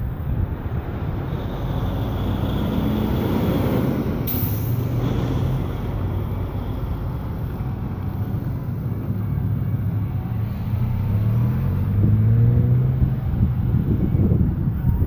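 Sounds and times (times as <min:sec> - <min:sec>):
low traffic rumble: 0:00.0 - 0:15.0
vehicle engine accelerating: 0:00.4 - 0:14.7.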